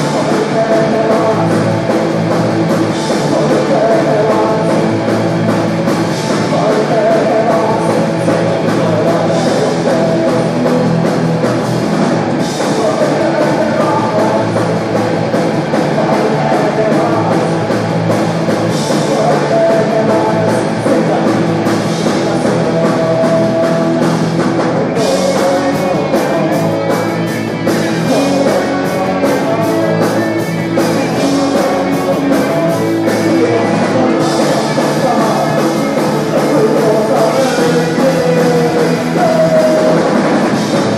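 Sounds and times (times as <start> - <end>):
drums and cymbals: 0.0 - 40.9
man singing: 0.0 - 40.9
punk rock band playing: 0.0 - 40.9.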